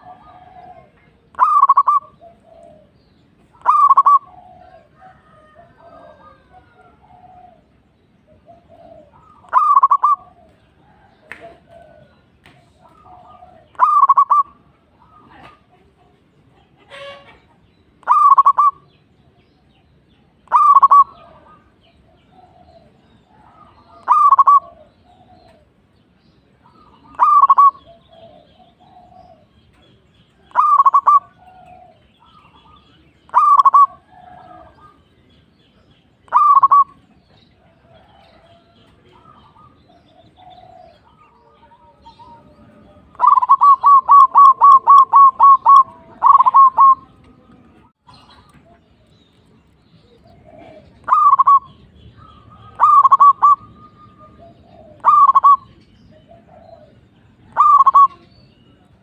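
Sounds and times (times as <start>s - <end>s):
dove cooing: 0.0s - 16.0s, 18.0s - 18.9s, 20.4s - 25.8s, 26.7s - 29.8s, 30.4s - 35.1s, 36.2s - 47.5s, 50.0s - 58.3s.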